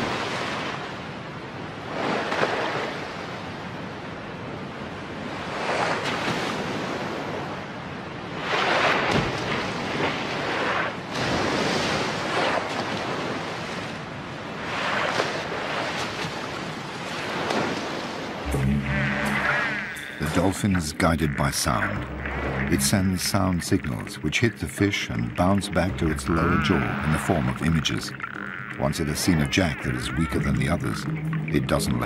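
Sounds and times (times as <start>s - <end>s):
sea water washing and splashing: 0.0s - 32.0s.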